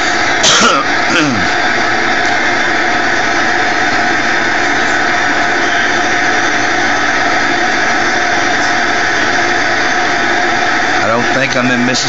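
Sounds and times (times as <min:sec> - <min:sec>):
airliner engines in cabin: 0:00.0 - 0:12.0.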